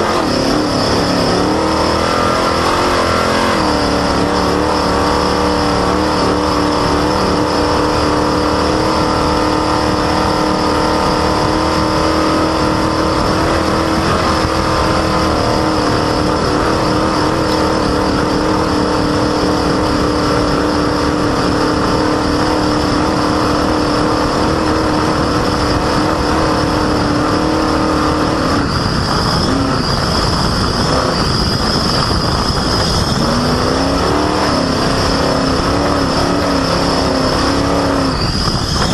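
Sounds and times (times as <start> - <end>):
engine revving: 0.0 - 38.9
engine whine: 0.0 - 38.9
squeaky belt squeal: 0.0 - 38.9
terrain noise: 0.0 - 38.9
wind noise: 0.0 - 38.9.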